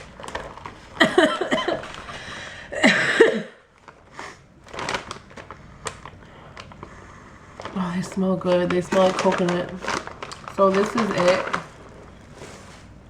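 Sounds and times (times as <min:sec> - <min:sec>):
plastic snack bag crinkling: 0:00.0 - 0:02.5, 0:03.7 - 0:13.0.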